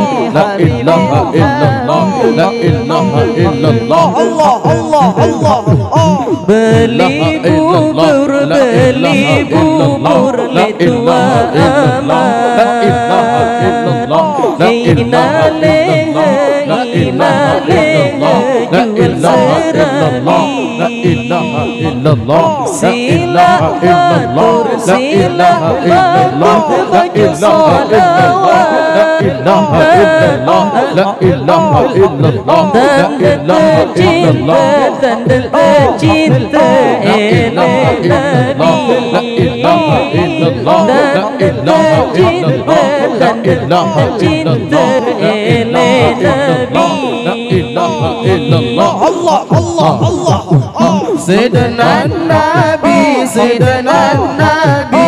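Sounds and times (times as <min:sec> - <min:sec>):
man singing with vibrato: 0:00.0 - 0:55.0
rhythmic percussive beat: 0:00.0 - 0:55.0.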